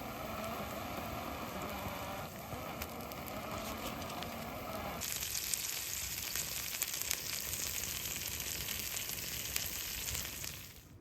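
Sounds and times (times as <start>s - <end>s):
food sizzling in a pan: 0.0s - 10.8s.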